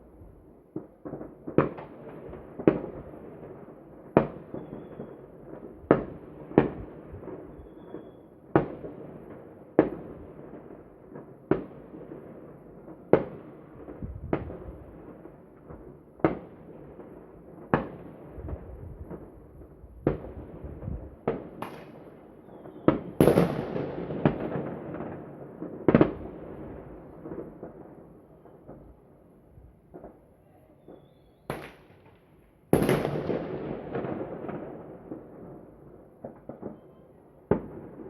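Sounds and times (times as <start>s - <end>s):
distant fireworks crackle and rumble: 0.0s - 38.0s
fireworks sharp bangs: 0.8s - 29.0s, 29.8s - 38.0s.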